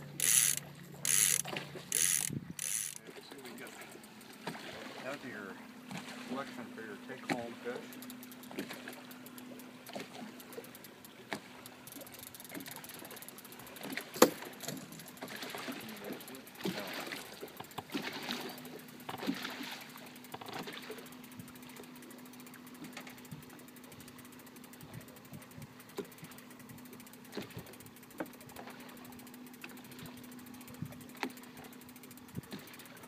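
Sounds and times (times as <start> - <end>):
boat motor humming: 0.0 - 33.0.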